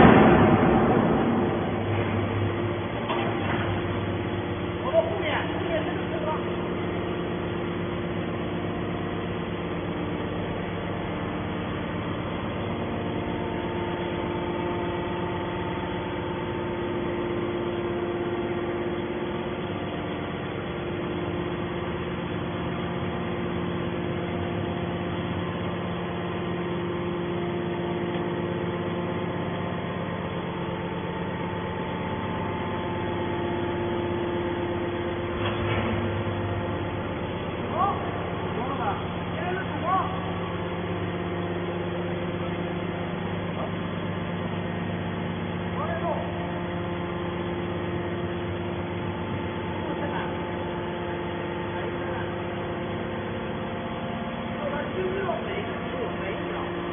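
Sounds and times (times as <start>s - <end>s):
electric motor and pump humming: 0.0s - 56.9s.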